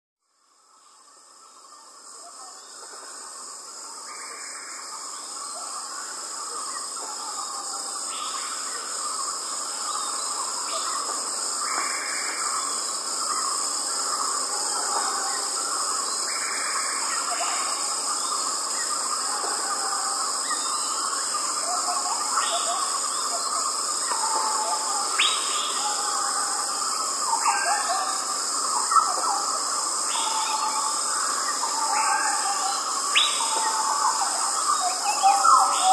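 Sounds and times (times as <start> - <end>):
crickets chirping: 0.2 - 35.9.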